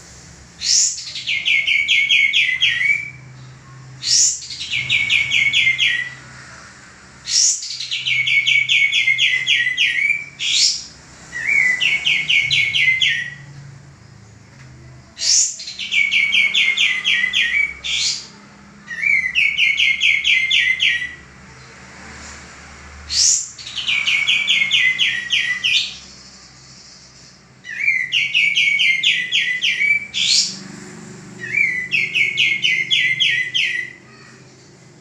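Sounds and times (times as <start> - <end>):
bulbul singing: 0.4 - 6.3, 7.2 - 21.3, 23.1 - 34.8.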